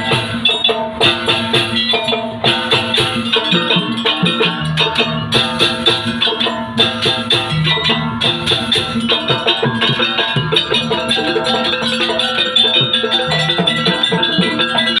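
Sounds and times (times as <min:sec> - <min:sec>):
drums: 0:00.0 - 0:15.0
ringing percussion: 0:00.0 - 0:15.0
sustained pitched notes: 0:00.0 - 0:15.0.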